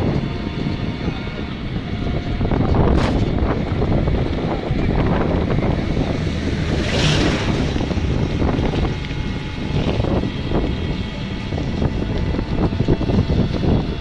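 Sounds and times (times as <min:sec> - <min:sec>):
vehicle running: 0:00.0 - 0:14.0
wind buffeting microphone: 0:00.0 - 0:14.0.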